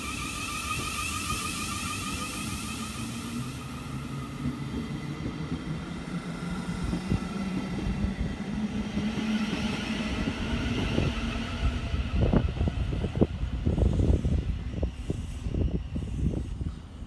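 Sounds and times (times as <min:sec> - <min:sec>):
electric train hum and whine: 0:00.0 - 0:17.0
wheels rumbling on rail: 0:00.0 - 0:17.0.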